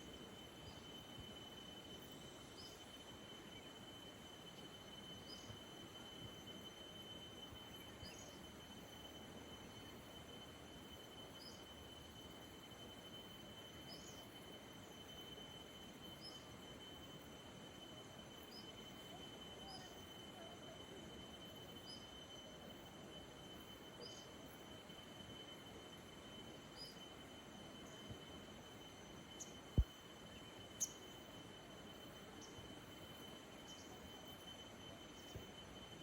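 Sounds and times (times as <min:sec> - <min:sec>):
thin high whine: 0:00.0 - 0:36.0.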